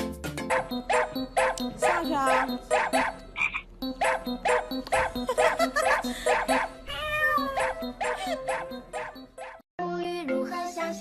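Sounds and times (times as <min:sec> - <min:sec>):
background music with steady beat: 0:00.0 - 0:09.6.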